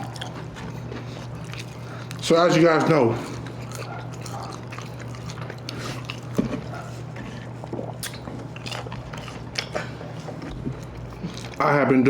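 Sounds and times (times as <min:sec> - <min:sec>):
person chewing food: 0:00.0 - 0:11.8
low steady hum: 0:00.0 - 0:12.0.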